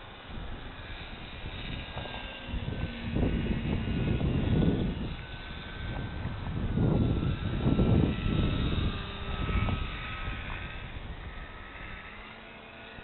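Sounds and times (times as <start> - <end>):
model airplane motor whine: 0.0 - 13.0
wind buffeting microphone: 0.0 - 13.0.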